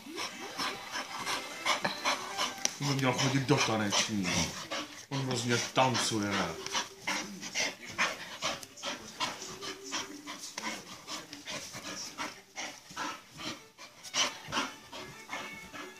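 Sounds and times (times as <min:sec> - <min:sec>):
dog panting: 0:00.0 - 0:15.9.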